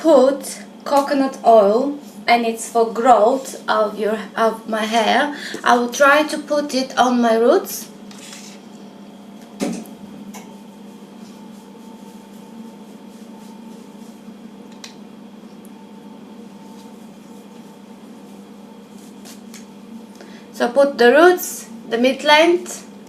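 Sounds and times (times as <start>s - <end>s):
indoor hum: 0.0s - 23.0s.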